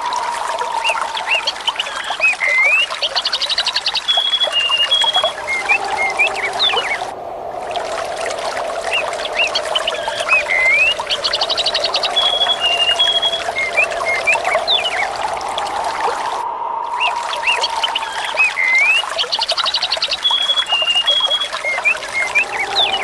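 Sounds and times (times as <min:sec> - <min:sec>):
water trickling: 0:00.0 - 0:23.0
small birds chirping: 0:00.8 - 0:07.1, 0:08.9 - 0:15.2, 0:16.9 - 0:23.0.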